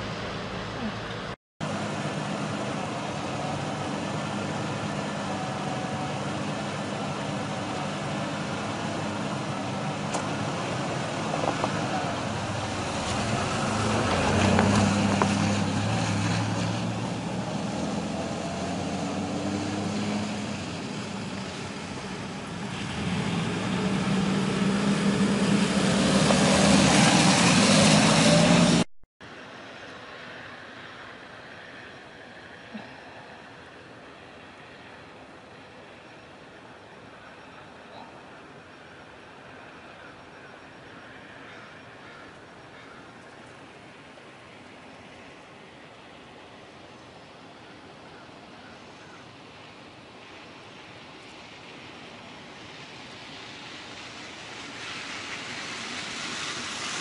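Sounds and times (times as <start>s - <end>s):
trucks driving past: 0.0s - 57.0s
tyres hissing through wet snow: 0.1s - 35.6s, 36.5s - 57.0s.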